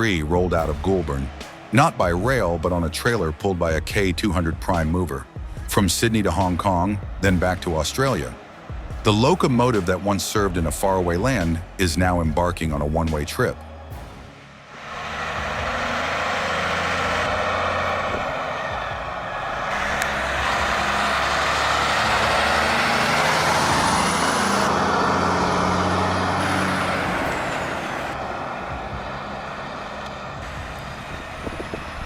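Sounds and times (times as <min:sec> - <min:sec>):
truck diesel engine passing: 0:00.0 - 0:32.0.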